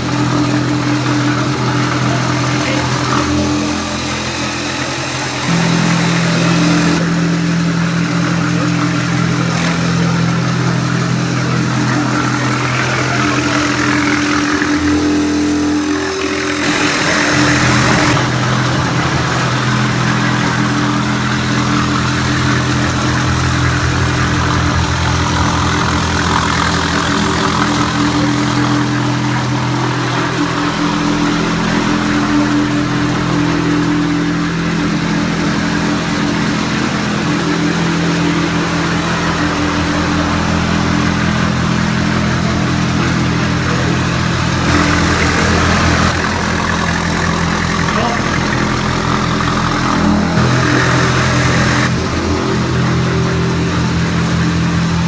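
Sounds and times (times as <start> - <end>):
blade scraping floor underlay: 0.0 - 55.0
floor stripper motor humming: 0.0 - 55.0.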